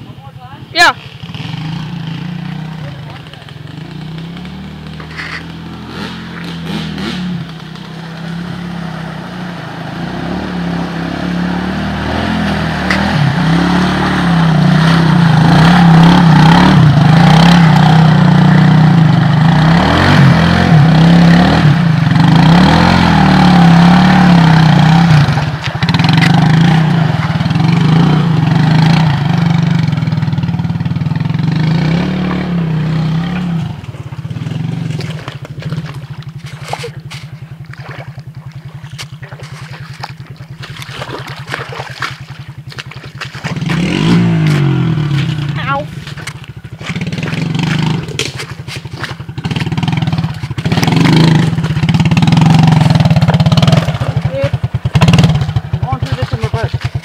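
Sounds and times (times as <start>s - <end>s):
atv engine revving: 0.0s - 57.0s
vehicle churning through mud and water: 0.0s - 57.0s.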